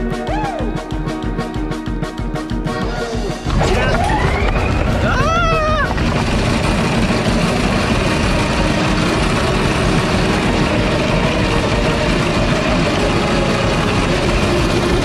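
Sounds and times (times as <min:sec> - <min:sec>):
go-kart engines running: 0:02.9 - 0:15.0.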